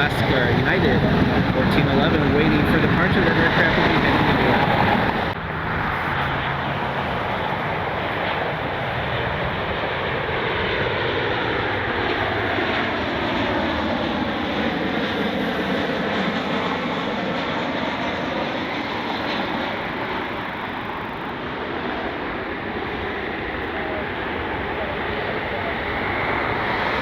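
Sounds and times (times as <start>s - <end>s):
jet airliner engines passing: 0.0s - 27.0s.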